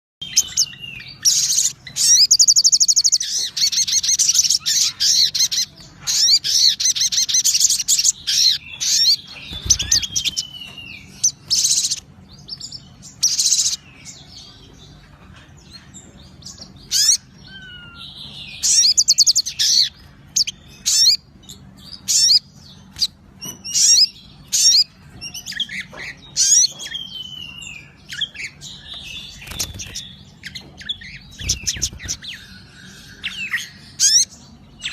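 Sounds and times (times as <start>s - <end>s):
songbird chattering trills: 0.2s - 34.9s.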